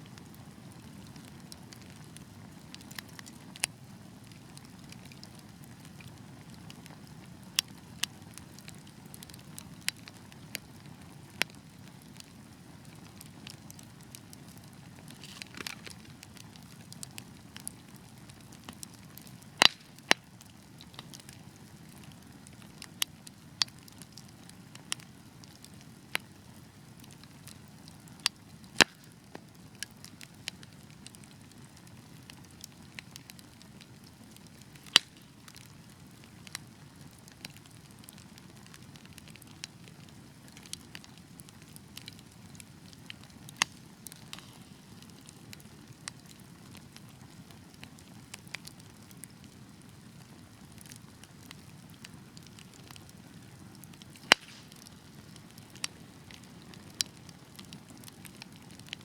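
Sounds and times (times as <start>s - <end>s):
logs popping and crackling: 0.0s - 59.0s
wood fire burning: 0.0s - 59.0s.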